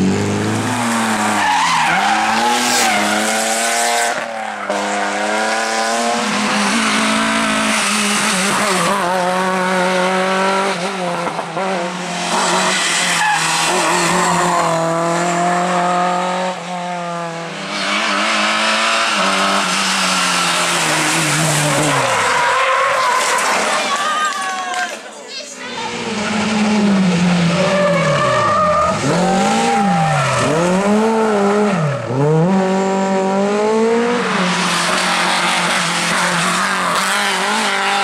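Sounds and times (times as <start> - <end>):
tyres skidding and squealing: 0.0 - 15.9, 16.6 - 38.0
rally car engine revving: 0.0 - 23.9, 25.8 - 38.0.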